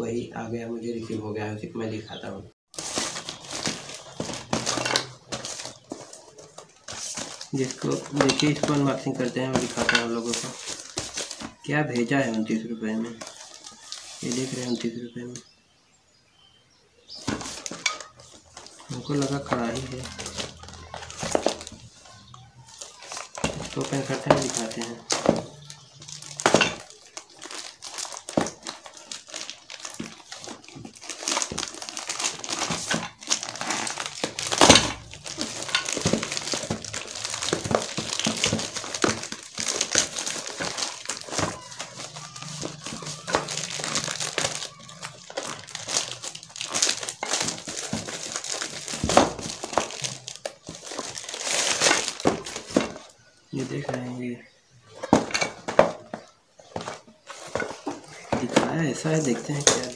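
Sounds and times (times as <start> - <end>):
plastic bag crinkling: 2.7 - 15.4, 17.1 - 54.2, 54.8 - 59.9.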